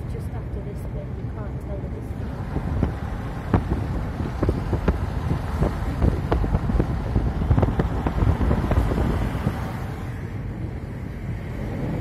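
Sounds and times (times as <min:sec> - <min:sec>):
car tyres and engine rumble: 0:00.0 - 0:12.0.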